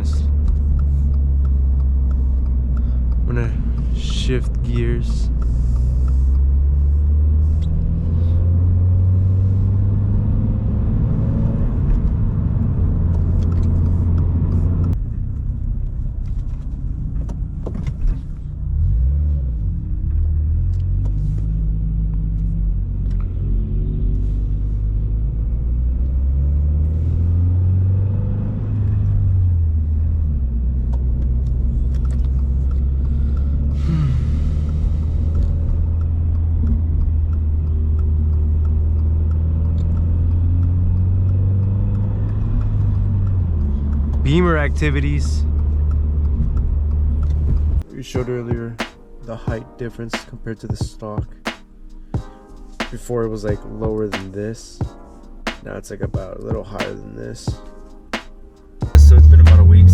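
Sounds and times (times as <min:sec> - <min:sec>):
car engine and exhaust drone: 0:00.0 - 0:59.9.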